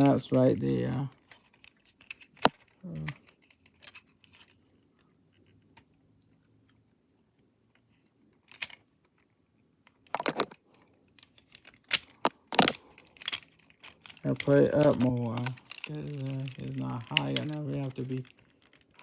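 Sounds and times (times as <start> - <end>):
plastic toy parts clicking: 0.0 - 6.0, 8.3 - 9.3, 9.9 - 19.0.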